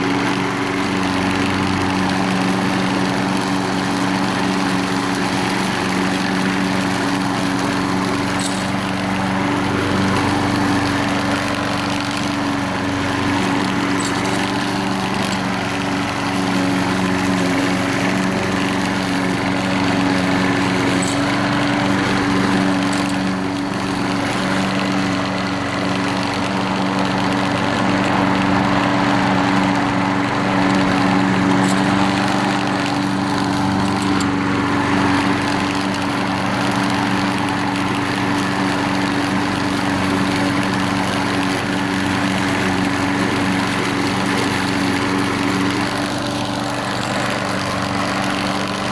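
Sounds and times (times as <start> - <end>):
lawn mower engine running: 0.0 - 48.9.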